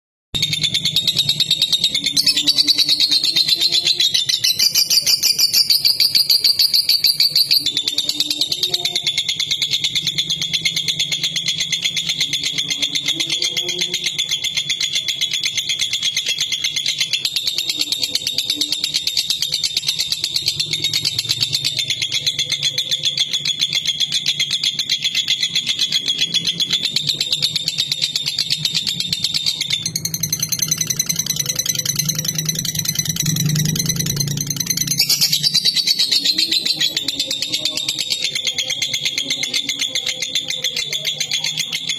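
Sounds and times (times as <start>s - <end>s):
lovebird trilling chatter: 0.4s - 41.9s.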